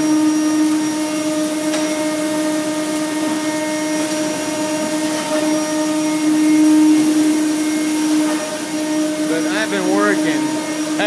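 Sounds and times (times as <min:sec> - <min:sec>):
noisy hum: 0:00.0 - 0:11.0
router machine whine: 0:00.0 - 0:11.0.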